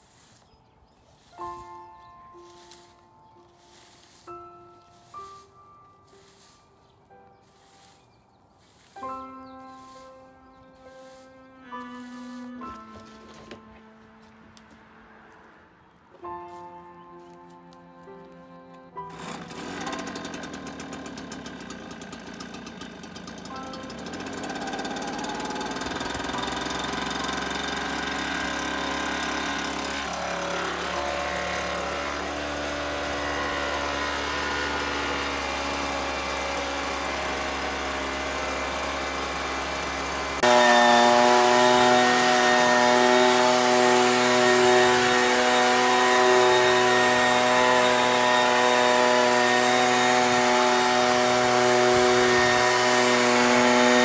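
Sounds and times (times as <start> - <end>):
leaf blower engine running: 0.0 - 14.4, 17.2 - 54.0.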